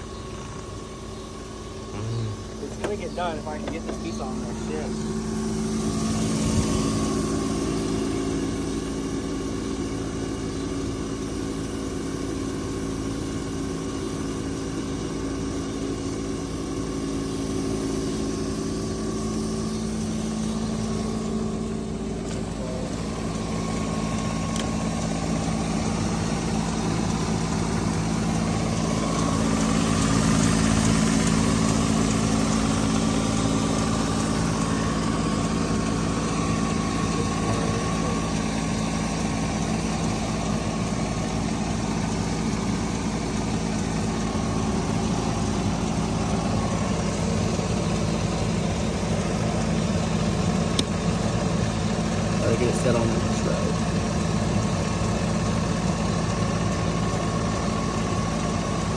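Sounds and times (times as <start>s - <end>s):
truck engine idling: 0.0s - 58.9s.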